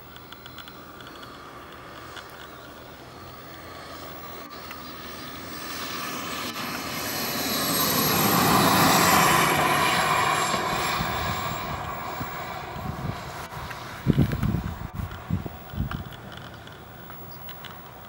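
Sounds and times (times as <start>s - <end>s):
model jet turbines whining: 0.0s - 18.0s.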